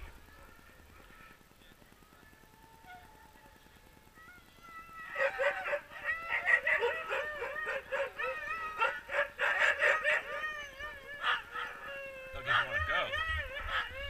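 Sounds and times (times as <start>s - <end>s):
sled dogs yelping and howling: 2.6s - 14.0s.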